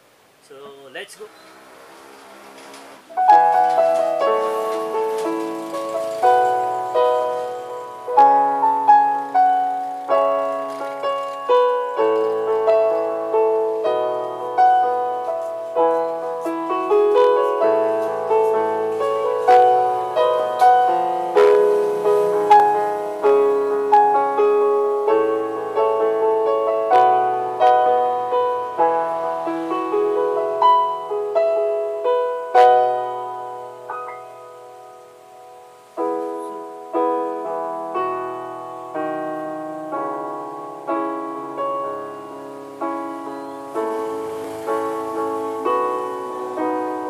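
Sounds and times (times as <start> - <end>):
electronic keyboard piano chords: 0.0 - 47.0.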